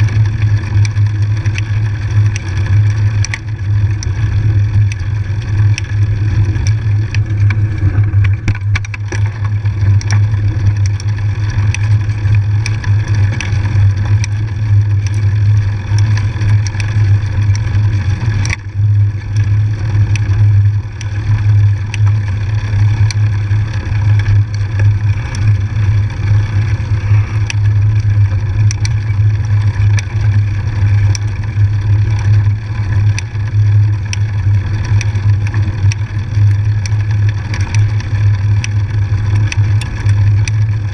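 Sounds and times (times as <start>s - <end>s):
bike riding low rumble: 0.0s - 40.9s.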